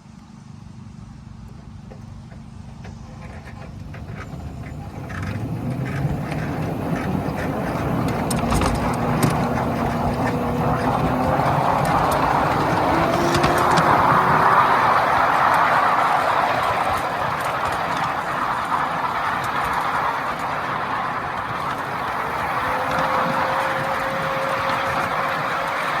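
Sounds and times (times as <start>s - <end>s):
ride-on train humming: 0.0s - 26.0s
wheels clicking on track: 0.0s - 26.0s.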